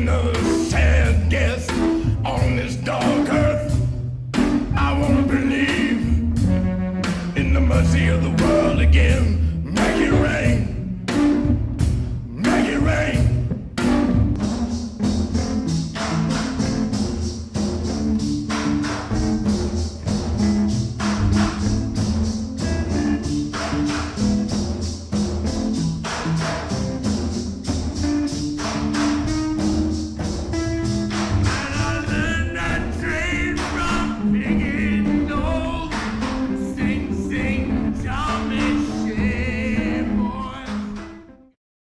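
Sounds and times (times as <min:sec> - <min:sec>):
fast percussive beat: 0:00.0 - 0:41.0
low bass notes: 0:00.0 - 0:41.3.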